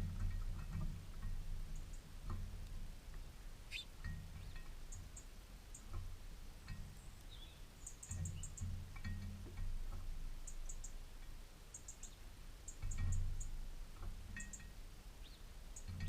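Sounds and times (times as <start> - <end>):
birds chirping: 0.1 - 16.0.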